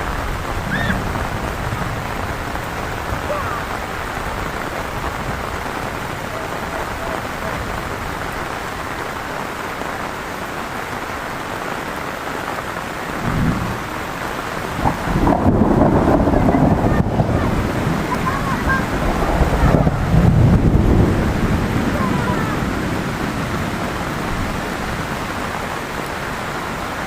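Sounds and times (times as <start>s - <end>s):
low thunder rumble: 0.0s - 9.0s, 13.1s - 26.9s
heavy rain falling: 0.0s - 27.0s.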